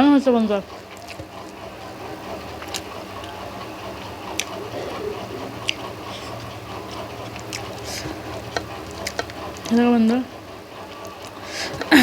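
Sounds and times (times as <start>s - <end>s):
electric fan humming: 0.0s - 12.0s
utensil clicking on plate: 0.7s - 1.7s, 2.3s - 10.2s, 10.9s - 12.0s.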